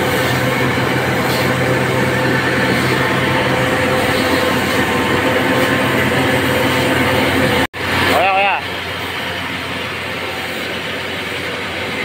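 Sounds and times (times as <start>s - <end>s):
pressure hose jetting water: 0.0s - 12.0s
pump engine drone: 0.0s - 12.0s.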